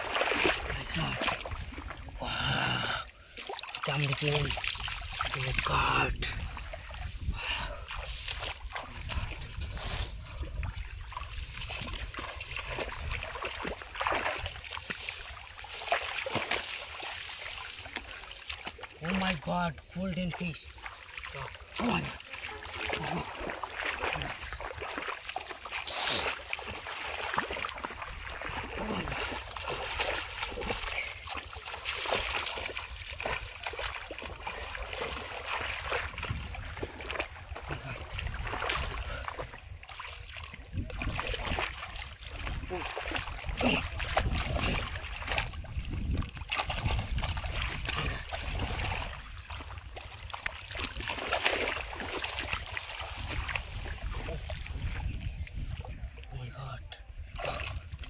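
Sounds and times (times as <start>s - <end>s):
shallow water splashing: 0.0s - 56.4s.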